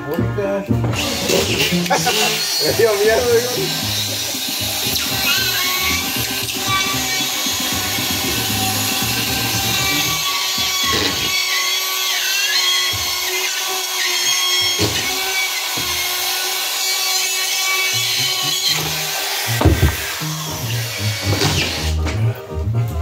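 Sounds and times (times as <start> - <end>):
cordless drill driving screws: 0.8 - 22.1.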